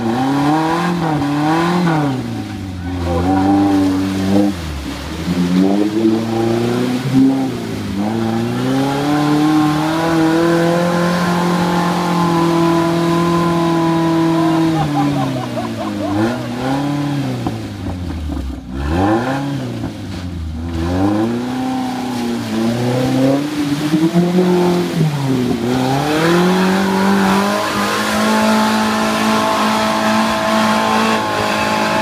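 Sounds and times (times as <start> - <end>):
off-road vehicle engine revving: 0.0 - 32.0
vehicle driving through mud: 0.0 - 32.0.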